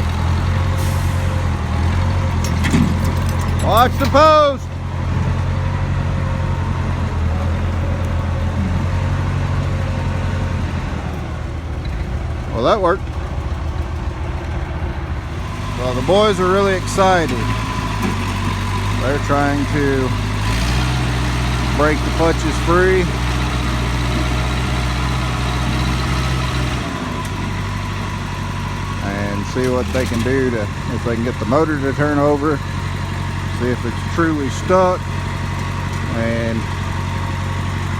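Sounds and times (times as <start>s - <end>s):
backhoe diesel engine droning: 0.0s - 37.9s.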